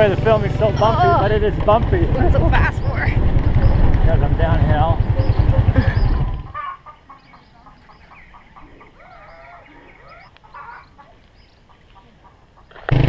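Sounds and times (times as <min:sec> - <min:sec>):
chickens clucking: 0:00.6 - 0:12.9.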